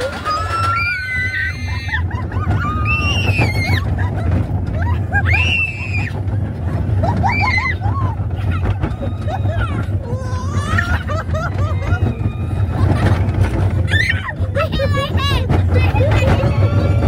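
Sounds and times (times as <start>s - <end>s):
low rumble of coaster train: 0.0s - 17.0s
roller coaster riders screaming: 0.0s - 17.0s.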